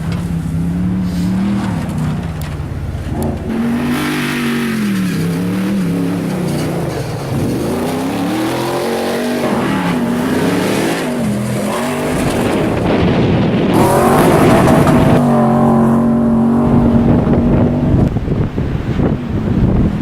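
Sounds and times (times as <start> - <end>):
truck engine revving: 0.0 - 20.0
wind rush and tyre noise: 0.0 - 20.0.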